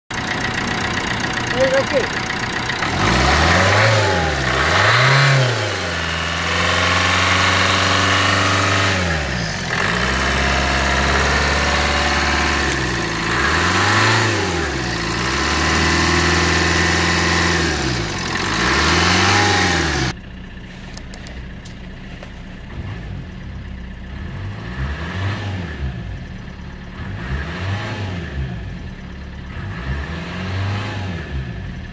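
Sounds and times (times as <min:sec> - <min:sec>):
diesel engine revving: 0:00.1 - 0:31.9.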